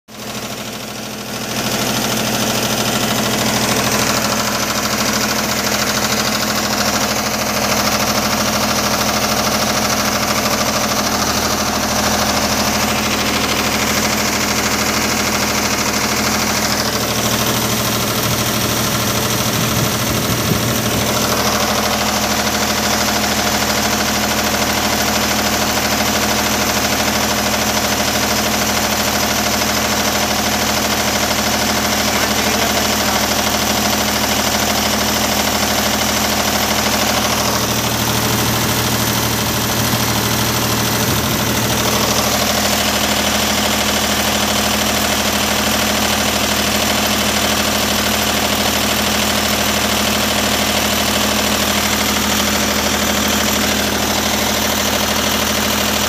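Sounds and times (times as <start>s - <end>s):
diesel generator running: 0.1s - 56.0s.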